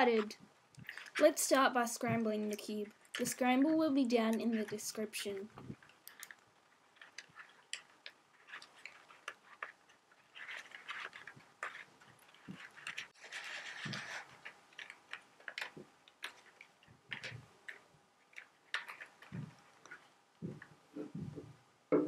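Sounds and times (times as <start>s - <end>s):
paper cube clicking and rustling: 0.0s - 21.5s.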